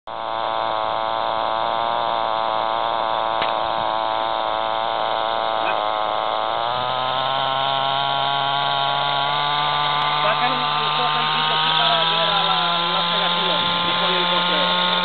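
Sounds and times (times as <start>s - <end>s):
model helicopter engine buzzing: 0.1s - 15.0s.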